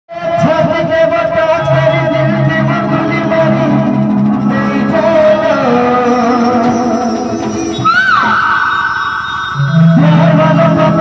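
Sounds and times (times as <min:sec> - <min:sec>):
man singing into microphone: 0:00.1 - 0:11.0
band instruments playing melody: 0:01.8 - 0:11.0.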